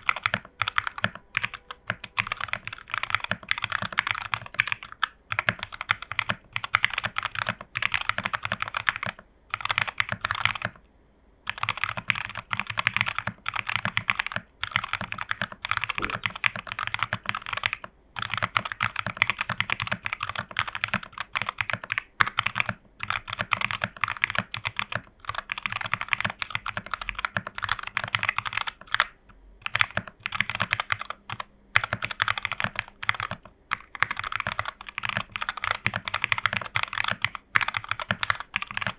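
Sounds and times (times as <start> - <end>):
mechanical keyboard typing: 0.0 - 10.8, 11.5 - 38.9.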